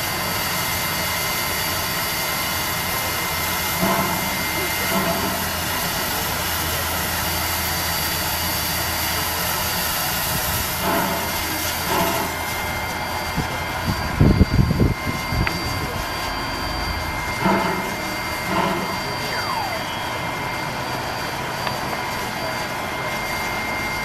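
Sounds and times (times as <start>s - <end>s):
steam locomotive hissing steam: 0.0s - 24.0s.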